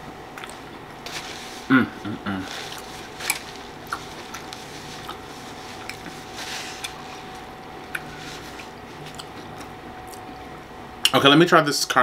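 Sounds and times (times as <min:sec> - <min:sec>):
faint steady hum: 0:00.0 - 0:12.0
person chewing food: 0:00.3 - 0:01.6, 0:02.3 - 0:10.6.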